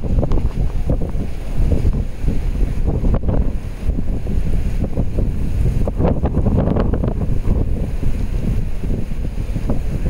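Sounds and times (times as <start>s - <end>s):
heavy rain: 0.0s - 10.0s
wind buffeting microphone: 0.0s - 10.0s.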